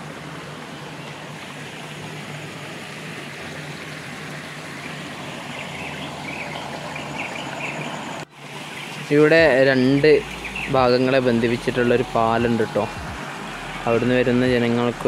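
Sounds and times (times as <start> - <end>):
stream flowing over rocks: 0.0 - 15.0.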